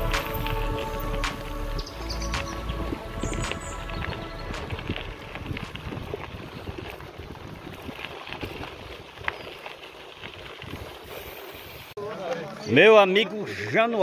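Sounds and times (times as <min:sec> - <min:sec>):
bike tyres on dirt: 0:00.0 - 0:13.6.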